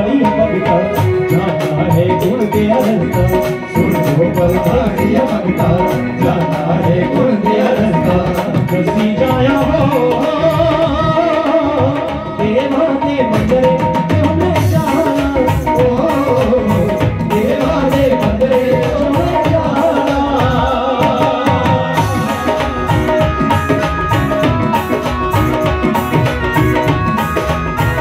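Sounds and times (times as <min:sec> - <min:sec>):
dhol drum beat: 0:00.0 - 0:28.0
keyboard melody: 0:00.0 - 0:28.0
man singing into a microphone: 0:00.0 - 0:28.0.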